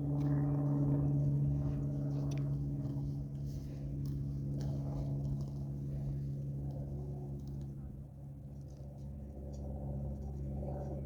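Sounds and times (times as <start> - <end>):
low-pitched hum: 0.0 - 11.0.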